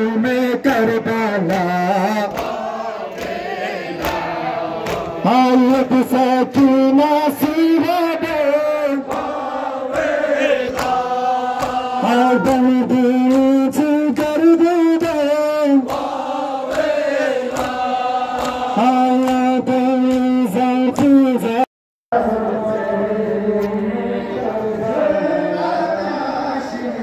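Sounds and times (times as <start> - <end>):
men chanting a lament: 0.0 - 27.0.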